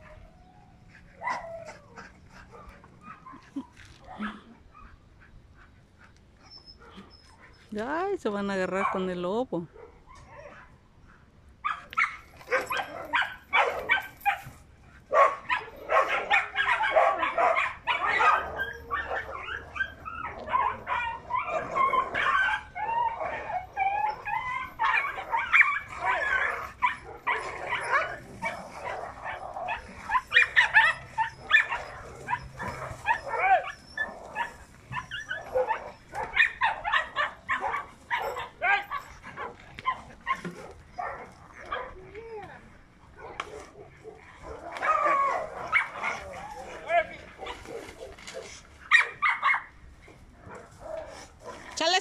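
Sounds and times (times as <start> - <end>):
dogs fighting and barking: 0.0 - 8.1, 9.7 - 52.0.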